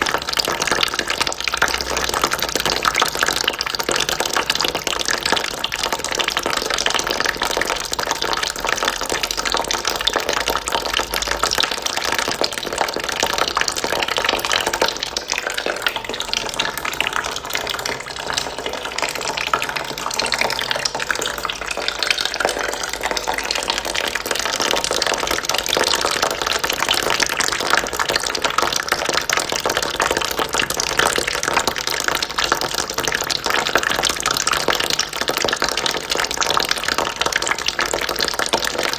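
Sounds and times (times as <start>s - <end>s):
water splashing into a bucket: 0.0s - 38.9s.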